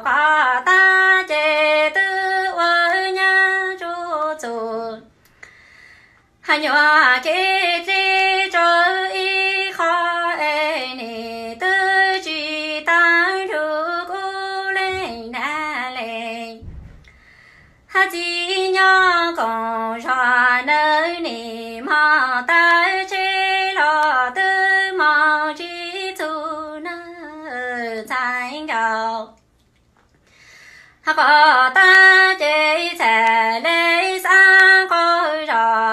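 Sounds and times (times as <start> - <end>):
woman singing unaccompanied: 0.0 - 5.1, 6.4 - 16.6, 17.9 - 29.4, 31.0 - 35.9.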